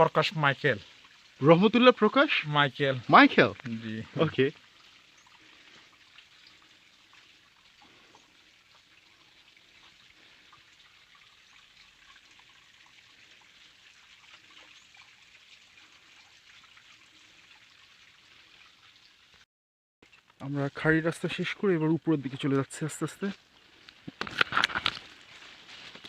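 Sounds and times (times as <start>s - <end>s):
faint water trickle: 0.0s - 19.4s, 20.0s - 24.2s, 24.8s - 26.0s.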